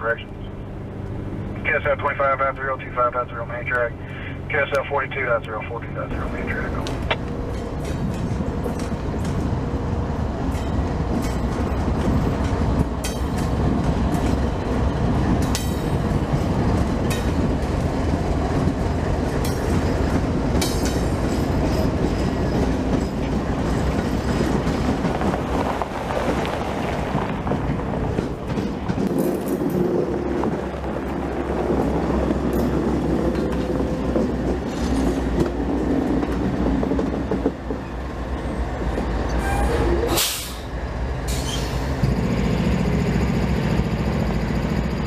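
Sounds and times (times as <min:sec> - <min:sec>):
freight train rumbling past: 0:00.0 - 0:45.0.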